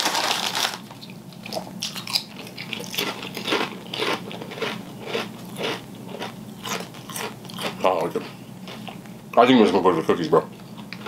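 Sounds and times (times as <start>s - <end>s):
crunchy chips being chewed: 0.0s - 9.1s.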